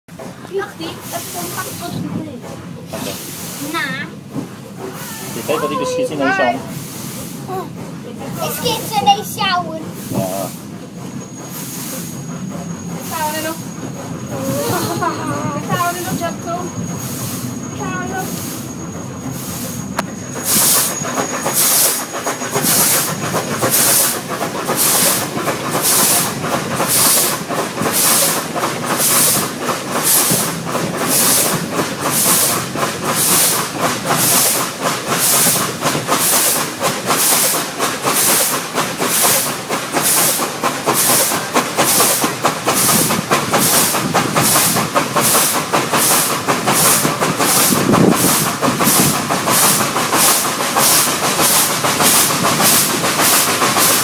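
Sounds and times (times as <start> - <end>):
steam locomotive chuffing: 0.1 - 54.0
train rumble: 0.1 - 54.0.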